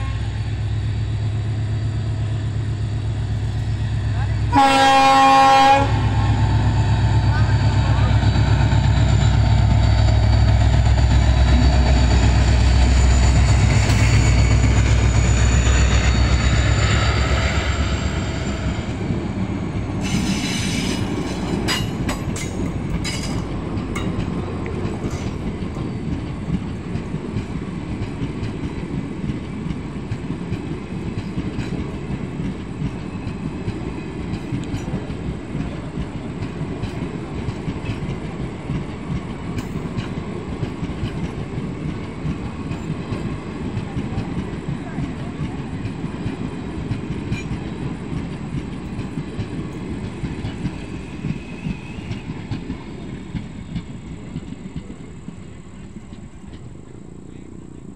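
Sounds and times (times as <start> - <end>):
diesel locomotive engine droning: 0.0 - 57.9
wheels clacking over rail joints: 6.3 - 57.4.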